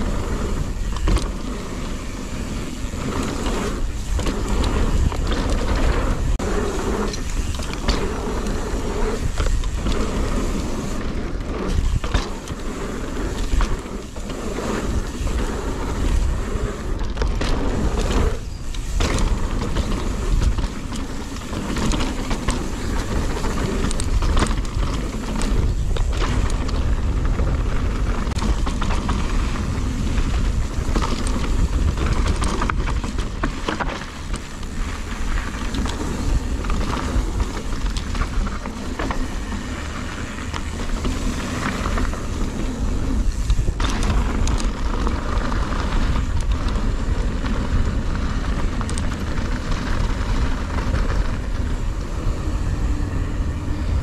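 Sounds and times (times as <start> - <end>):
bike knocks and rattles: 0.0 - 54.0
wind and tyres on dirt: 0.0 - 54.0.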